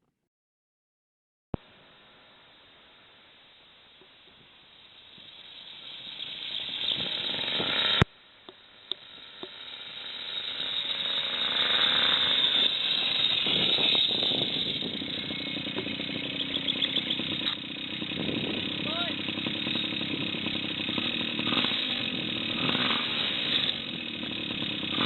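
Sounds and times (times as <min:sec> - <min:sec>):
small motorcycle engine running: 0:01.6 - 0:25.0.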